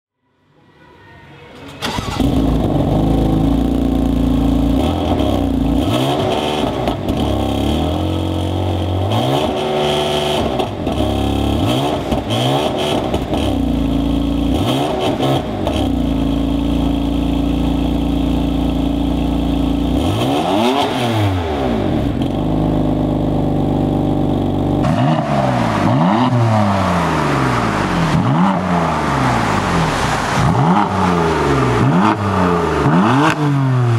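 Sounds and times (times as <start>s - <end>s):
car engine starting and idling: 1.5s - 33.9s
engine throttle blips: 1.5s - 33.9s.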